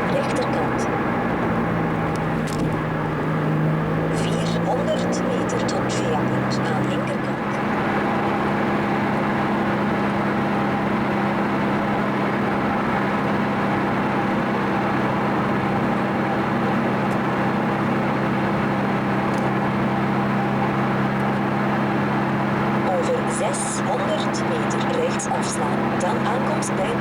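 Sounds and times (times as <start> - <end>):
car engine drone: 0.0 - 27.0
road noise: 0.0 - 27.0.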